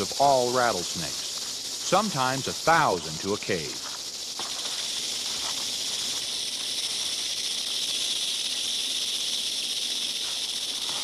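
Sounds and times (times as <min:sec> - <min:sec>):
rattlesnake tail rattle buzz: 0:00.0 - 0:11.0.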